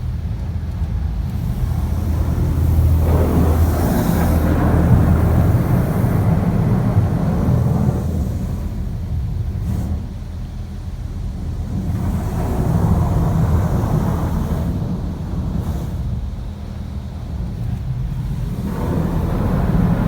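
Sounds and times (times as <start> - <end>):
water spray drumming on car: 0.0 - 20.0.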